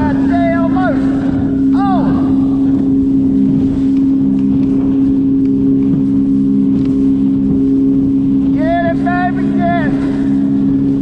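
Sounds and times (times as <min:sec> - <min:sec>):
electric trolling motor humming: 0:00.0 - 0:11.0
water noise: 0:00.0 - 0:11.0
wind: 0:00.0 - 0:11.0.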